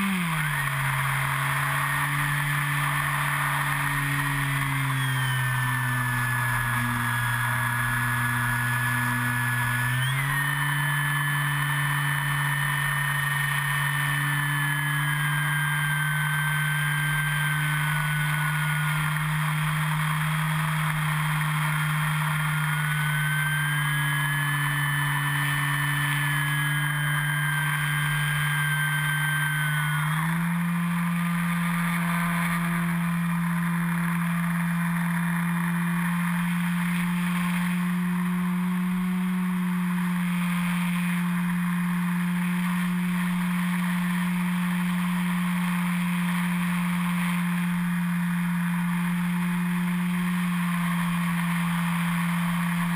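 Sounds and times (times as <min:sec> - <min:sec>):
high-pitched motor whine: 0:00.0 - 0:52.9
rc plane motor and propeller drone: 0:00.0 - 0:52.9.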